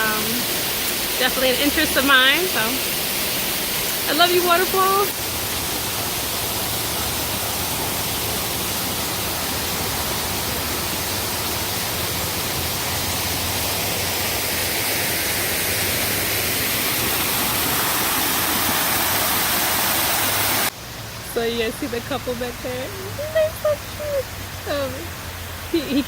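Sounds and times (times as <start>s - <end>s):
waterfall pouring onto rocks: 0.0s - 26.0s.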